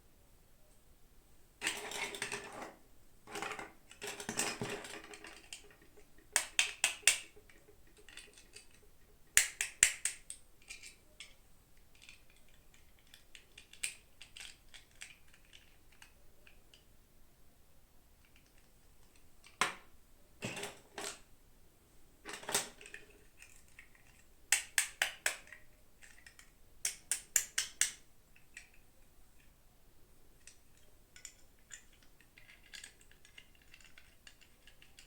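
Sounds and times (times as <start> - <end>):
plastic toys clicking and tapping: 1.6 - 16.9, 18.2 - 21.3, 22.3 - 29.6, 30.4 - 35.0.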